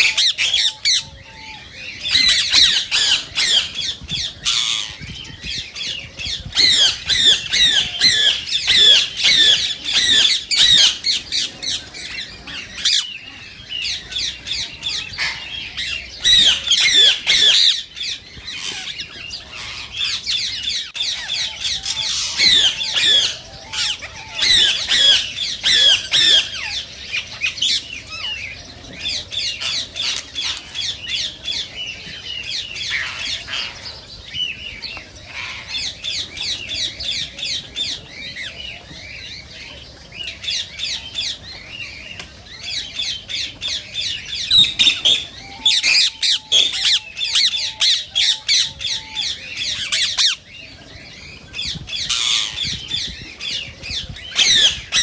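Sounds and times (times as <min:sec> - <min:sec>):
parakeets squawking: 0:00.0 - 0:05.2, 0:06.2 - 0:31.7, 0:32.7 - 0:34.1, 0:43.0 - 0:55.0.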